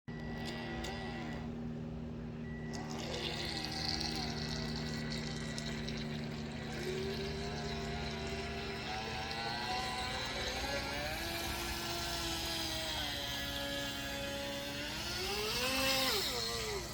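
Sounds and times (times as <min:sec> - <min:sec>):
small electric motor humming: 0:00.1 - 0:16.9.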